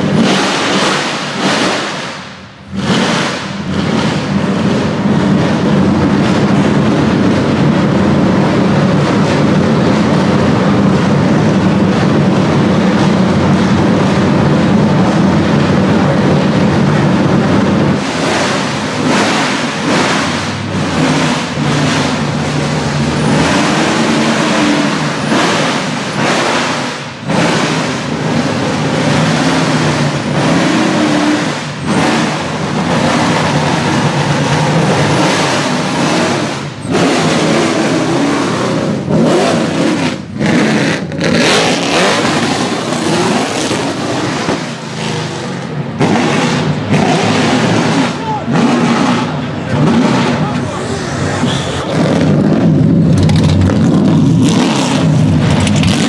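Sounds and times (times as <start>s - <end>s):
car engine idling loudly: 0.0s - 56.0s
engine throttle revs: 0.0s - 56.0s.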